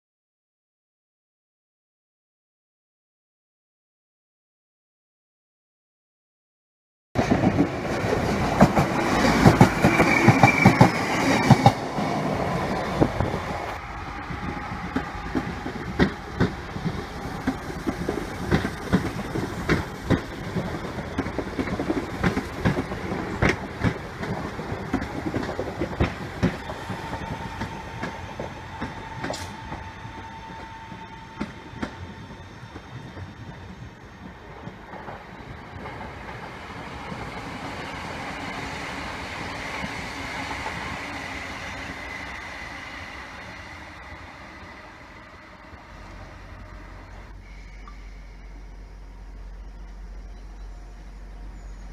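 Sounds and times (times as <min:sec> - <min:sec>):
train passing: 0:07.2 - 0:51.9.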